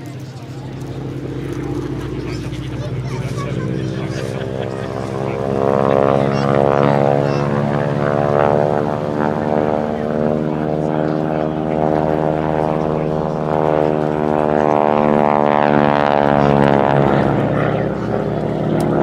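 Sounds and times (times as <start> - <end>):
radial aircraft engine droning: 0.0 - 19.0.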